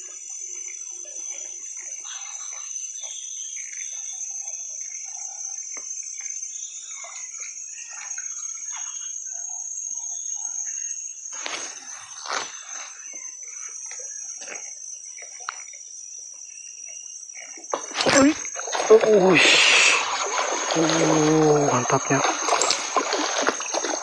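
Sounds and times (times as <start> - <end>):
forest insects droning: 0.0 - 24.0.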